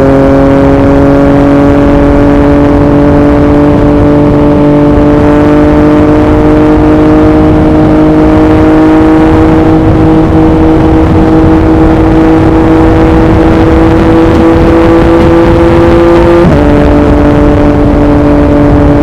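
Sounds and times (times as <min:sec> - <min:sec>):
motorcycle engine at high revs: 0:00.0 - 0:19.0
wind buffeting microphone: 0:00.0 - 0:19.0.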